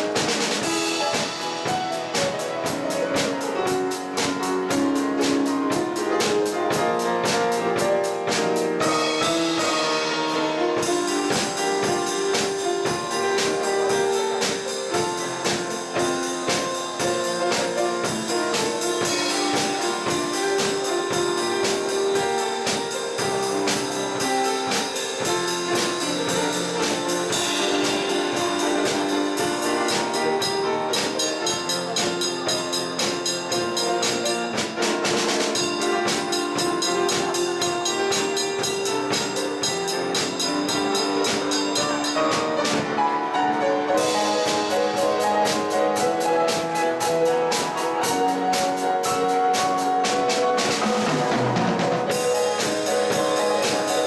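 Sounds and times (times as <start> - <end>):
drum kit with cymbals: 0.0 - 54.0
grand piano playing: 0.0 - 54.0.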